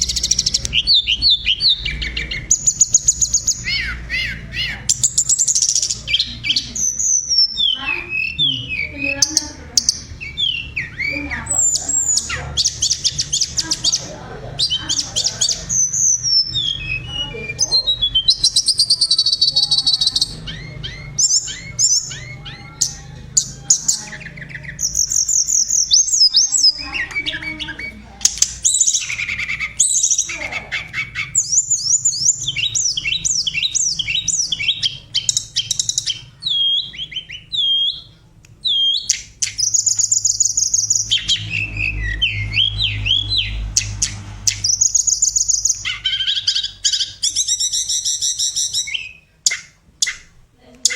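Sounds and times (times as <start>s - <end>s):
bird singing whistled song: 0.0s - 50.3s.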